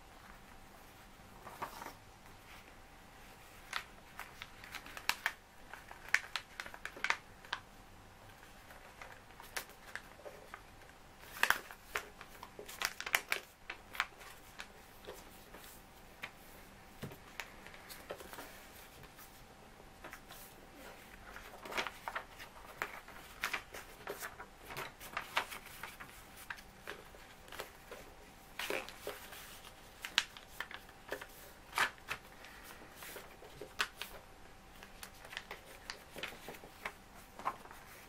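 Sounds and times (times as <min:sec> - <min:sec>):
paper being folded and creased: 0:00.2 - 0:07.6, 0:08.3 - 0:19.4, 0:20.0 - 0:38.0.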